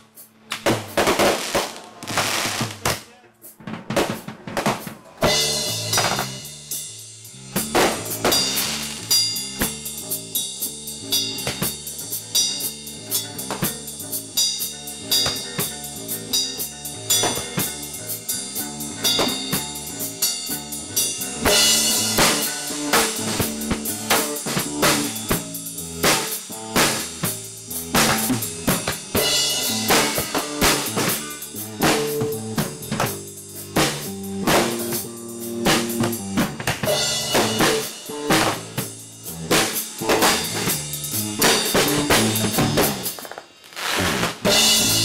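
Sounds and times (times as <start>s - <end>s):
drum kit beat: 0.0s - 45.0s
bass guitar line: 5.2s - 43.2s, 44.0s - 45.0s.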